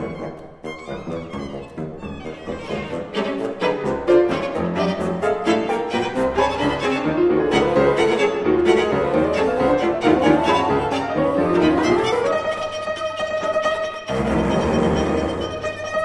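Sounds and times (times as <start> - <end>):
violin cello and piano chamber music: 0.0 - 16.0.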